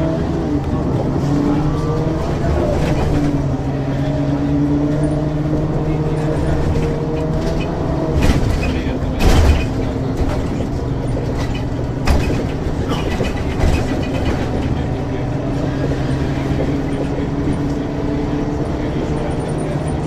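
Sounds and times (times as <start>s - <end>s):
bus diesel engine running: 0.0s - 20.0s
bus knocks and rattles: 0.0s - 20.0s.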